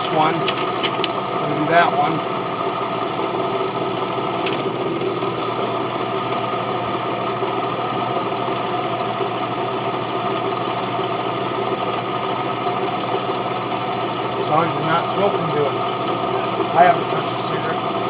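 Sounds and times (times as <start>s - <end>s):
faint high whine: 0.0s - 18.0s
machine motor drone: 0.0s - 18.0s.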